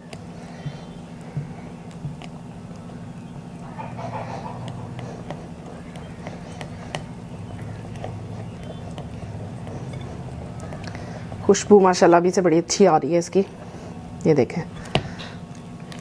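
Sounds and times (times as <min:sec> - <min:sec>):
spatula stirring batter: 0:00.0 - 0:14.0
low hum: 0:00.0 - 0:16.0.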